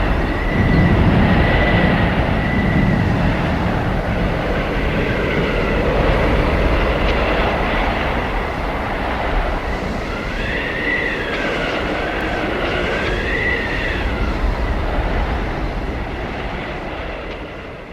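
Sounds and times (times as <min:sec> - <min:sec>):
blizzard wind rumbling: 0:00.0 - 0:17.9
howling wind whistle: 0:00.0 - 0:17.9.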